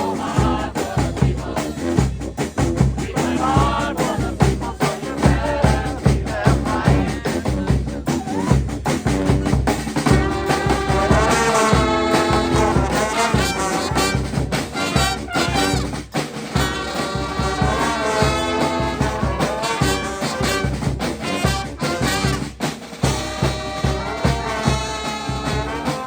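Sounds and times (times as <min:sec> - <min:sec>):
brass band playing jazzy tune: 0:00.0 - 0:26.0
steady drum beat: 0:00.0 - 0:26.0.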